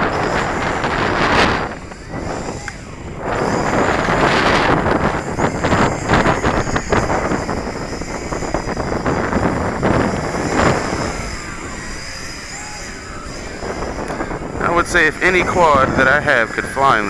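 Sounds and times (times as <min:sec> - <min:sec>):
drone motors whining: 0:00.0 - 0:17.0
wind buffeting microphone: 0:00.0 - 0:17.0.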